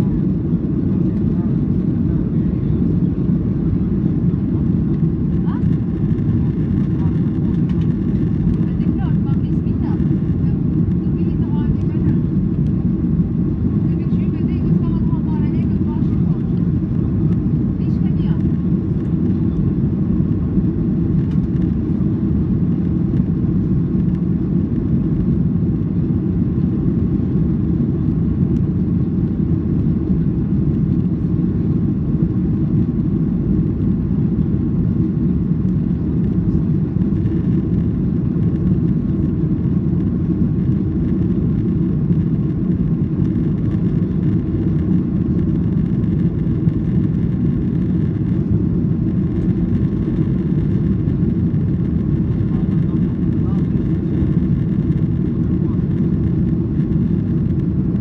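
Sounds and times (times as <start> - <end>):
airplane cabin low rumble: 0.0 - 58.0.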